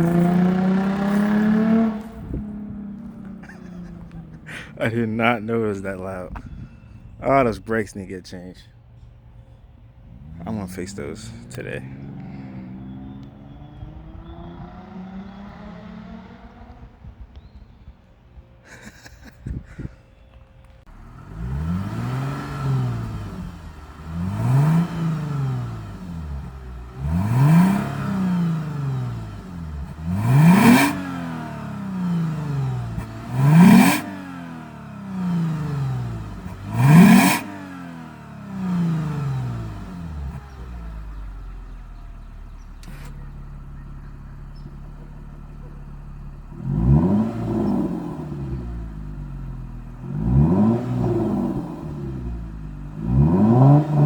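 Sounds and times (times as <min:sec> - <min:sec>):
car engine revving: 0:00.0 - 0:18.2, 0:20.7 - 0:54.0
car engine idling: 0:00.0 - 0:18.6, 0:20.1 - 0:54.0.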